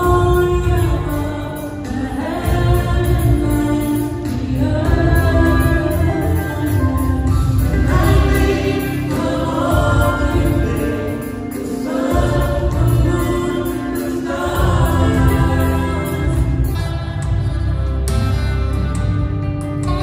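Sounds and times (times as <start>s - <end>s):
singers on microphones: 0.0s - 18.4s
amplified backing music: 0.0s - 20.0s.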